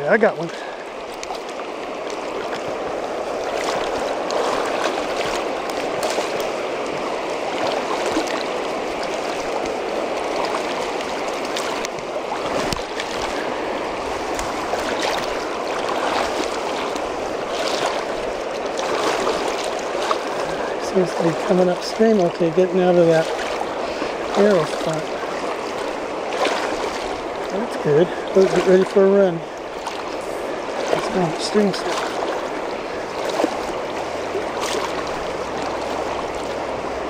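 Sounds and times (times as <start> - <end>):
river current rushing: 0.0 - 37.0.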